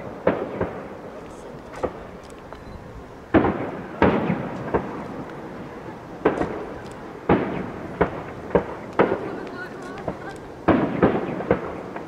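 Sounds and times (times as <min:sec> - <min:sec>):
fireworks bangs with rumbling echo: 0:00.0 - 0:12.0.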